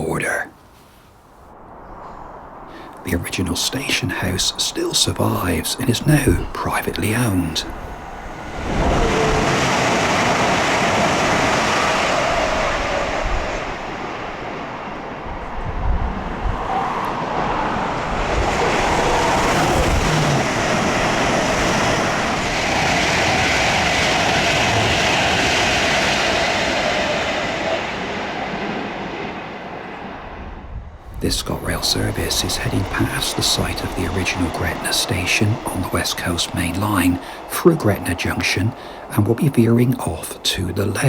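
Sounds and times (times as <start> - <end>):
train wheel and rail noise: 2.3 - 41.0.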